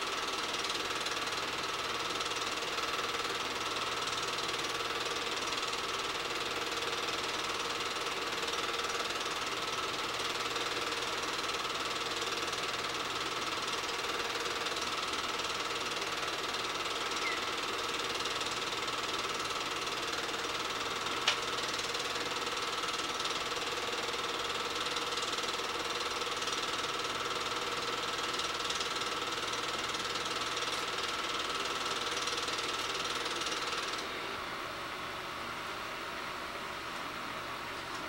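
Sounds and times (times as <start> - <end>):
film projector running: 0.0 - 38.0.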